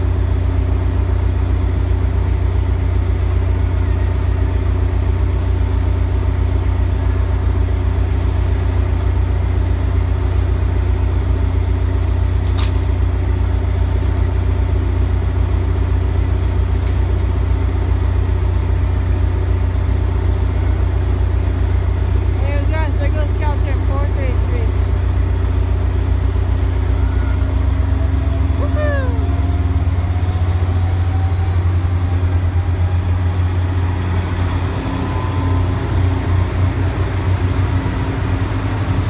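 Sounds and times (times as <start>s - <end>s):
locomotive engine droning: 0.0s - 39.0s.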